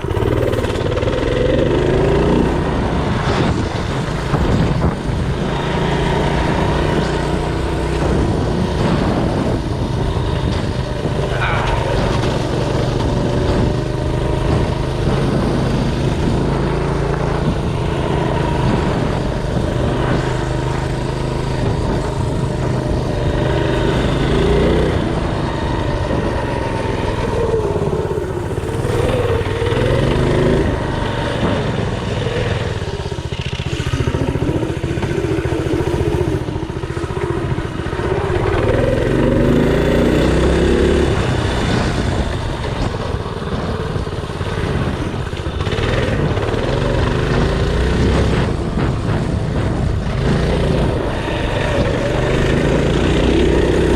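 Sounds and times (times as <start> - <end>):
mini bike engine revving: 0.0 - 53.9.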